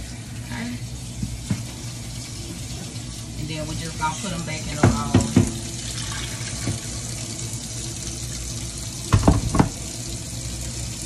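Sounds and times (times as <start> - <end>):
faucet running into metal sink: 0.0 - 11.0.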